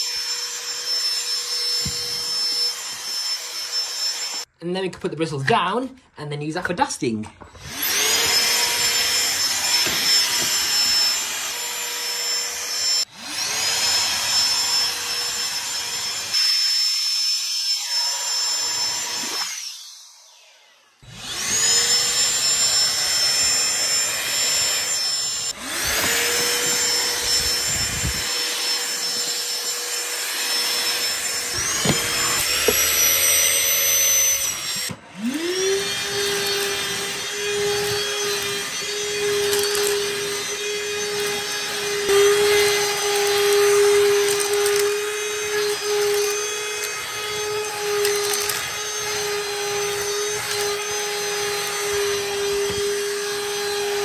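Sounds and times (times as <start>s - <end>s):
handheld vacuum motor whine: 0.0s - 4.5s, 7.4s - 54.0s.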